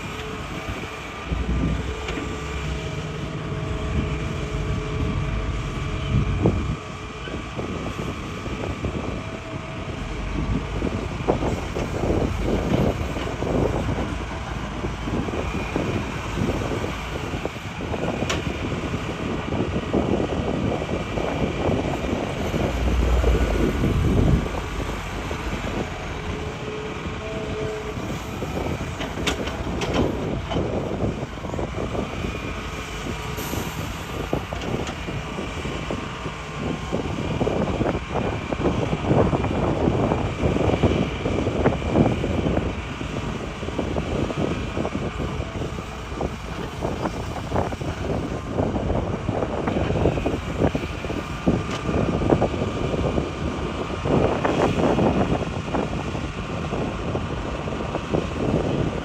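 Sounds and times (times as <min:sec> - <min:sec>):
diesel engine under load: 0:00.0 - 0:59.0
heavy low rumble: 0:00.0 - 0:59.0.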